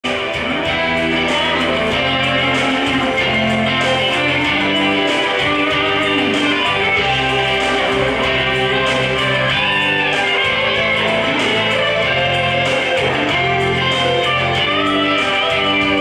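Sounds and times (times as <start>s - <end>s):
instrumental music with bass and beat: 0.0s - 16.0s.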